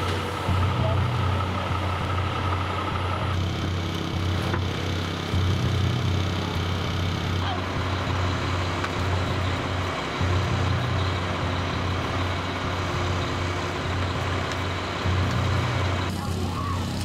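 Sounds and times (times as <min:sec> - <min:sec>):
truck engine low hum: 0:00.0 - 0:17.0.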